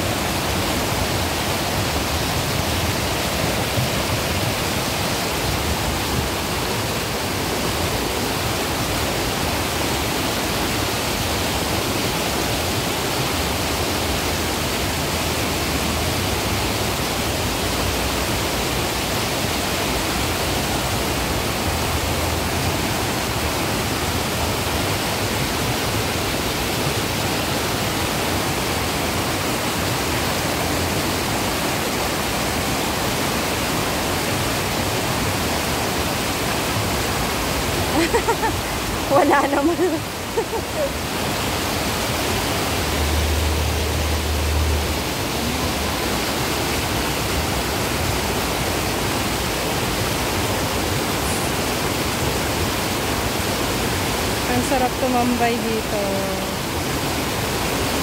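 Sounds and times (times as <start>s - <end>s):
white water rushing down steps: 0.0s - 58.0s.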